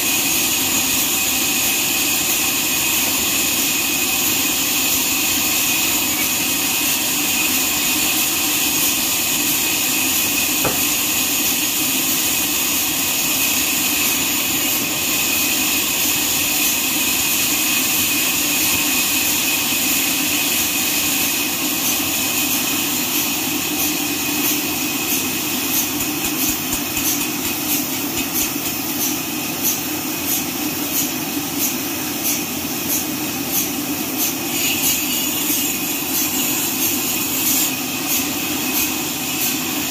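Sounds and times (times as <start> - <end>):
band saw cutting log: 0.8 - 30.4, 33.6 - 39.6.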